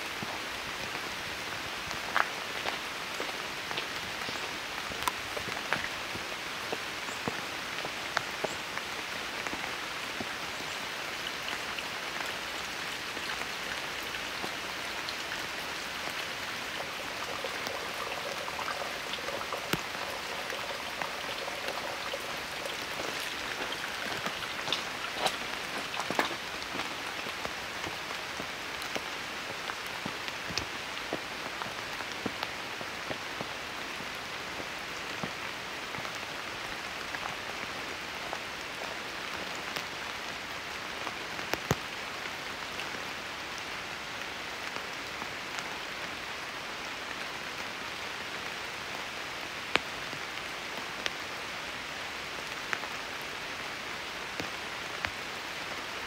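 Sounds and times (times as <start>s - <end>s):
raindrops striking close by: 0.0s - 56.0s
steady rain: 0.0s - 56.0s.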